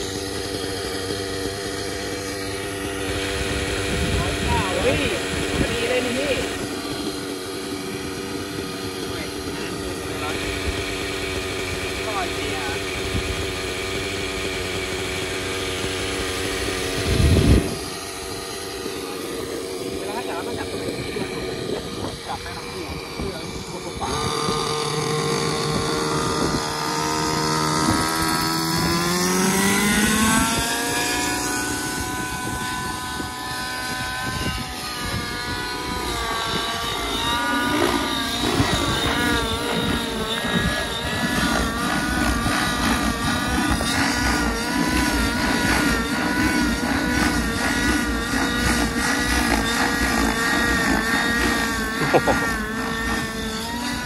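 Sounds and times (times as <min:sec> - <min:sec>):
model helicopter engine and rotor: 0:00.0 - 0:54.0.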